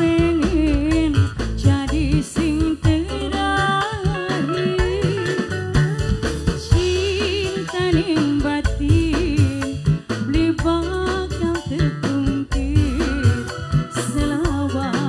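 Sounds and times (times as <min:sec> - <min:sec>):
bass: 0:00.0 - 0:15.0
drum beats: 0:00.0 - 0:15.0
woman singing with vibrato: 0:00.0 - 0:15.0.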